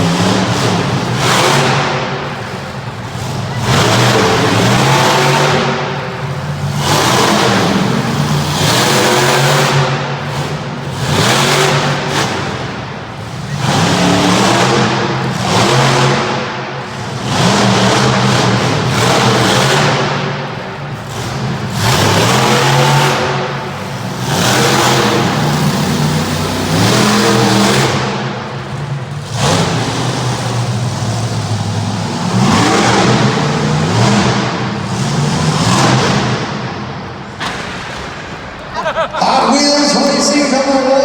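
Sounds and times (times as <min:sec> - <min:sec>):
truck engine revving hard: 0:00.0 - 0:41.0.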